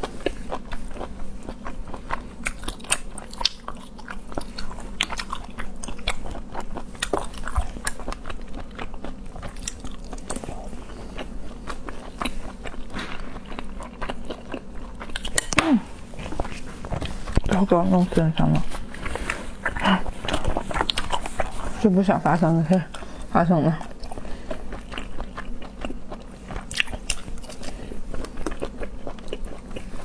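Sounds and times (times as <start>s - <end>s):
chewing with crackling clicks: 0.0s - 15.6s, 18.4s - 21.8s, 22.7s - 30.0s.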